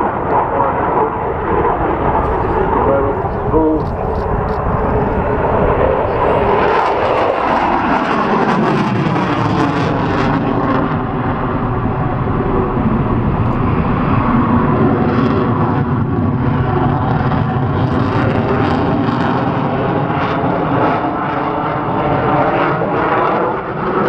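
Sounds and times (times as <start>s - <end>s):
loud jet noise: 0.0s - 24.0s.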